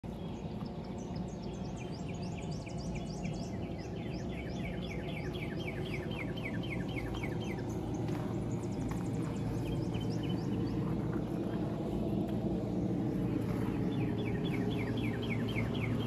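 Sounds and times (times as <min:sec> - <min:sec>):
birds chirping: 0:00.0 - 0:16.0
low background rumble: 0:00.0 - 0:16.0.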